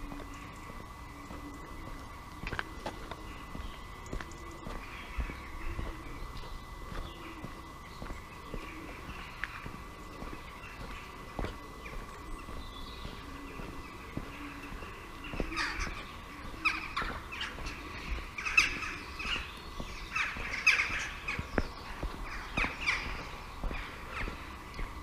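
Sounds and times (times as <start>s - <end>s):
crows cawing: 0.0s - 25.0s.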